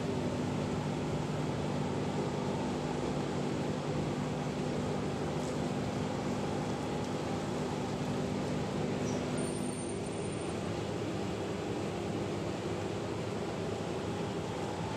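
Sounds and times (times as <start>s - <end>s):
even mechanical noise: 0.0s - 14.9s.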